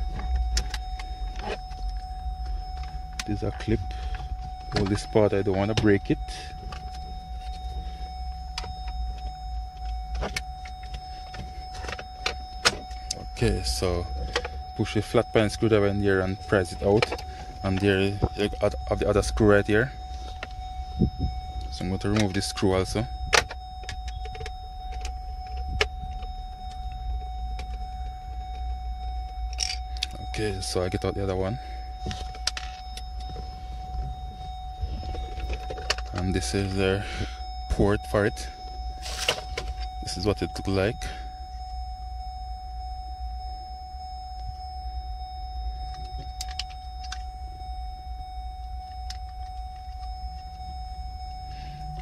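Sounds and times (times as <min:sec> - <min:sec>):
low hum: 0:00.0 - 0:52.0
steady low rumble: 0:00.0 - 0:52.0
thin steady whine: 0:00.0 - 0:52.0.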